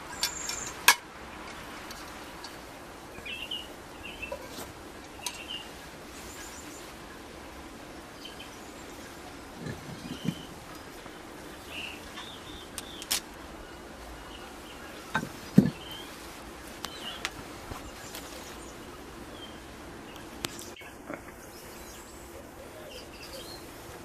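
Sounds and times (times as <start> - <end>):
small birds chirping: 0.0 - 24.0
steady background hiss: 0.0 - 24.0.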